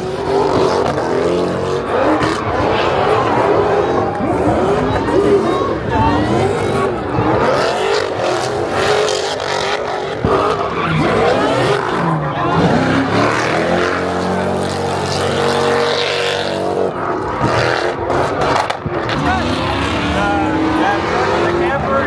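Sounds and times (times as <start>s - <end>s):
car engine running loudly: 0.0s - 22.0s
voices: 0.0s - 22.0s.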